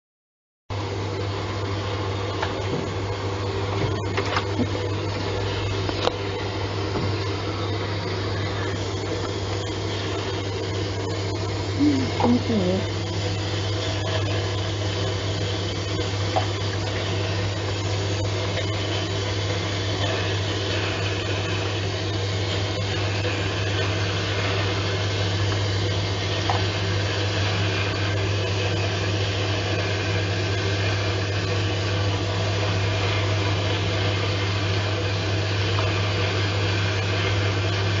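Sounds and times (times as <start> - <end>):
pump hum: 0.7 - 38.0
water and bubbles hissing: 4.5 - 37.6.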